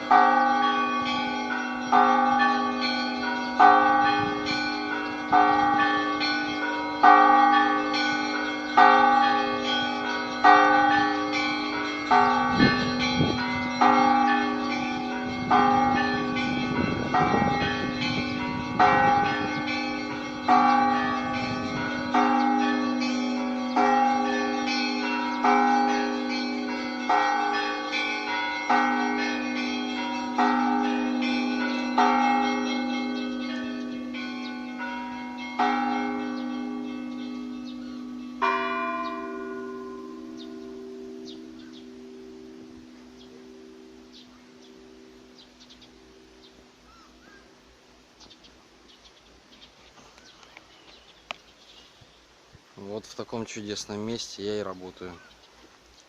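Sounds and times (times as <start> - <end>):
deep bell humming: 0.0 - 46.6
church bells pealing: 0.0 - 47.2.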